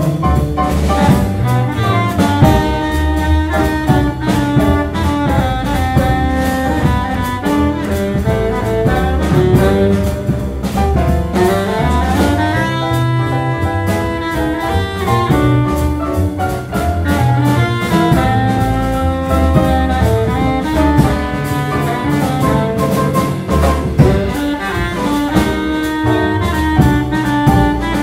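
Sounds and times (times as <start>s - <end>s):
baritone saxophone melody: 0.0s - 28.0s
double bass line: 0.0s - 28.0s.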